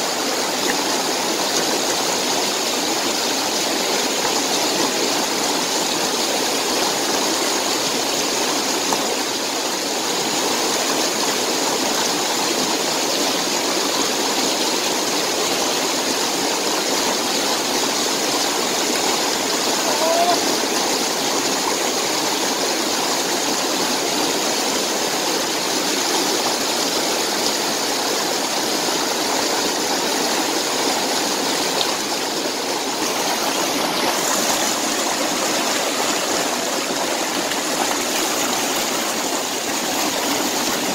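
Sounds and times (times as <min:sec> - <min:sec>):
stream rushing over stones: 0:00.0 - 0:40.9.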